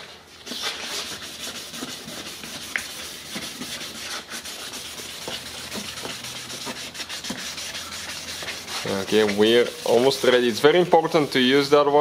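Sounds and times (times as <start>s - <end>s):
wet sanding by hand: 0.5s - 12.0s.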